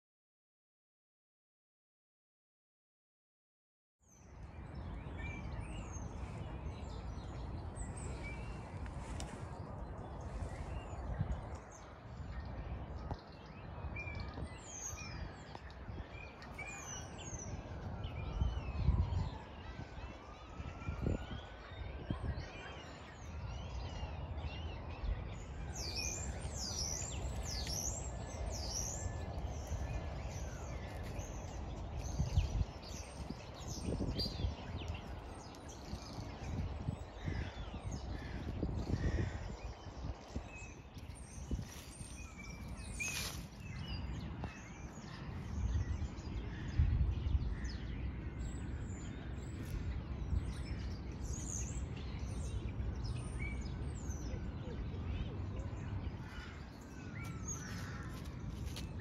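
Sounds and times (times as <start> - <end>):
small birds chirping: 4.1 - 59.0.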